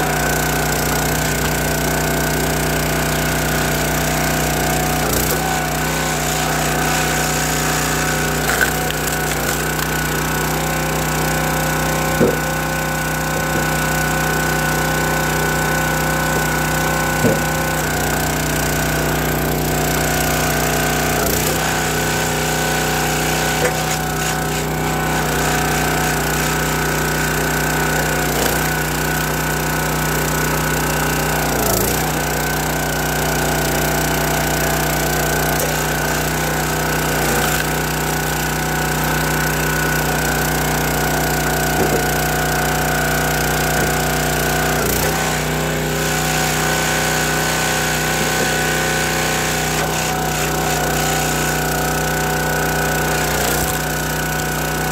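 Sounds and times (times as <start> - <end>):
log splitter engine running: 0.0 - 54.9.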